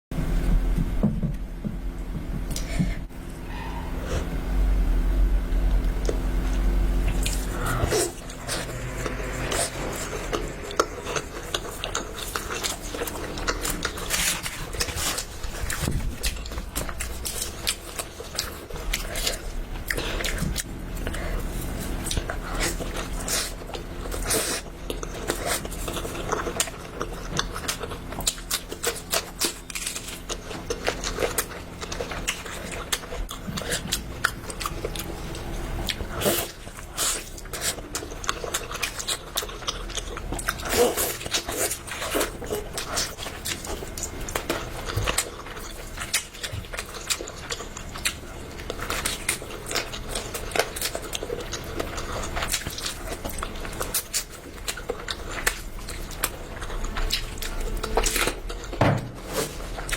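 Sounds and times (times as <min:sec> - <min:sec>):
chewing and crunching food: 0:05.5 - 0:59.9.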